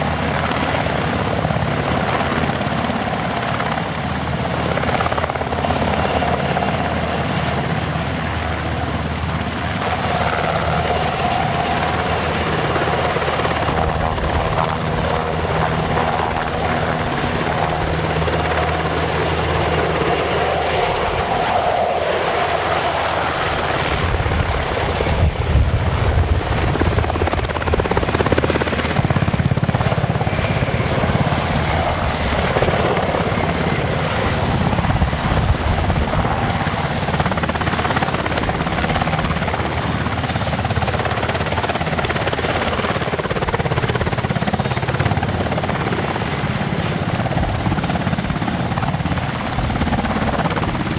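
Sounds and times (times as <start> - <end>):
helicopter rotor and engines: 0.0 - 50.9.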